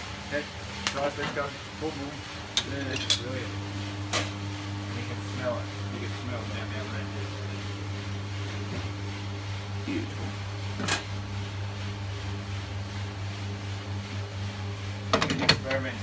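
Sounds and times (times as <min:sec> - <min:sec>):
espresso machine pump humming: 0:00.0 - 0:16.0.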